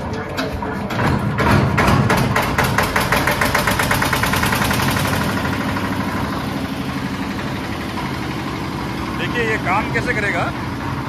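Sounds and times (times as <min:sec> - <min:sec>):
concrete mixer engine starting: 0:00.0 - 0:11.0.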